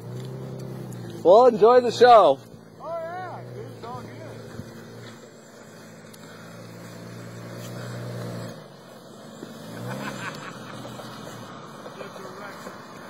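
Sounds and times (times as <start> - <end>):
car engine driving through mud: 0.0 - 13.0.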